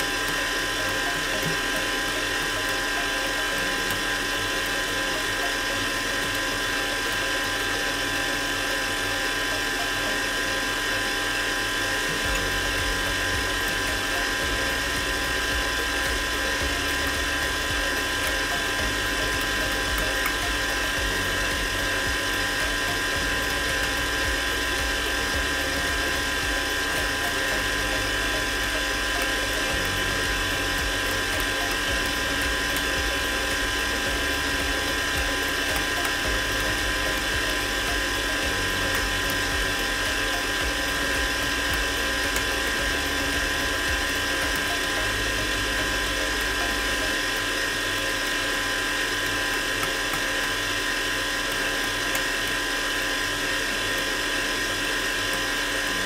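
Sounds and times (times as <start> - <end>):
electric mixer motor whining: 0.0 - 56.0.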